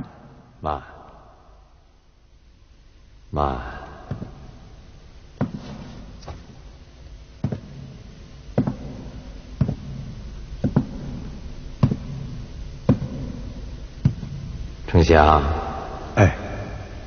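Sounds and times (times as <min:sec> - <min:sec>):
footsteps echoing in hall: 0:00.0 - 0:01.3, 0:03.6 - 0:17.0
steady low hum: 0:00.0 - 0:17.0.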